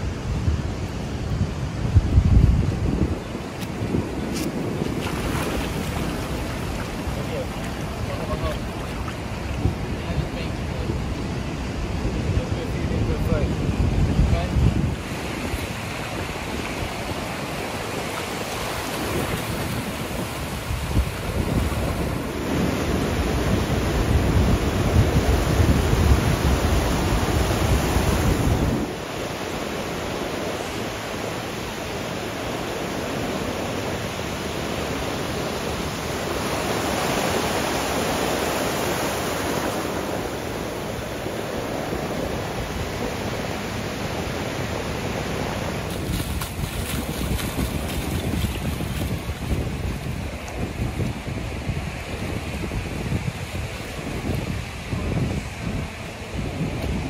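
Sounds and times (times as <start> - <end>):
ocean surf breaking: 0.0 - 57.0
wind rumble on microphone: 0.0 - 57.0.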